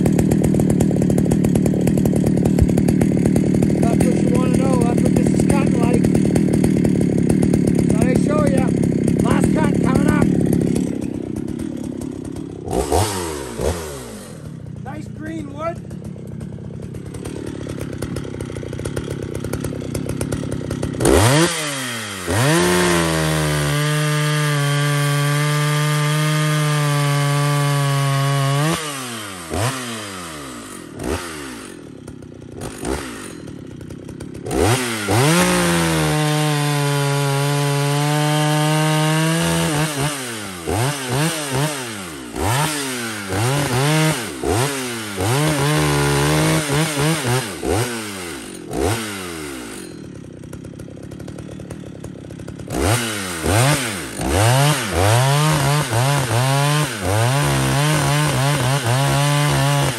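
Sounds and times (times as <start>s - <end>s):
chainsaw revving and cutting wood: 0.0s - 59.9s.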